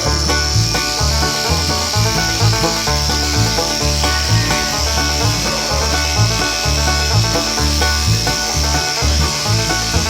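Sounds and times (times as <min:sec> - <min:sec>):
bouncing bass line: 0:00.0 - 0:10.0
upbeat banjo bluegrass tune: 0:00.0 - 0:10.0.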